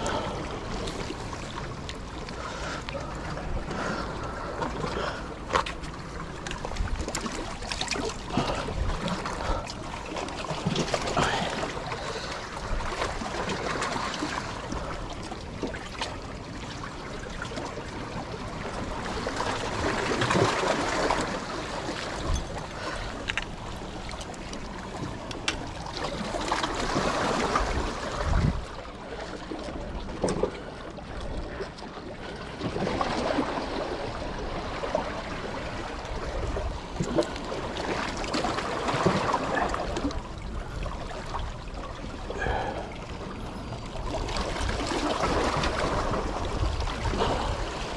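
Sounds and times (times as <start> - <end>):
small waves washing on shore: 0.0 - 47.9.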